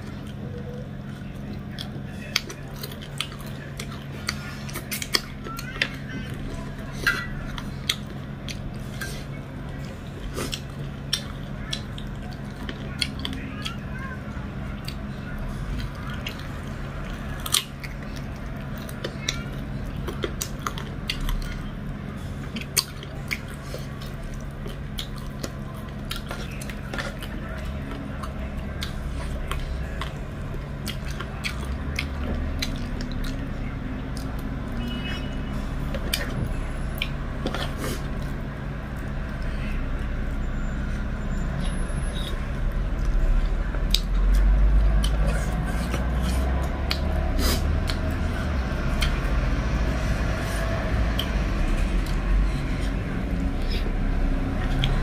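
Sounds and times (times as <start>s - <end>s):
chewing and mouth clicks: 0.0s - 14.0s, 14.6s - 55.0s
low background hum: 0.0s - 55.0s.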